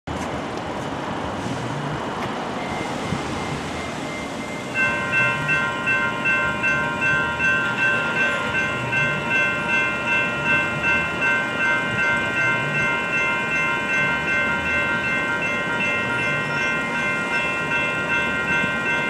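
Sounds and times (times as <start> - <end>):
street traffic noise: 0.1 - 19.0
crossing warning bells ringing: 1.7 - 19.0.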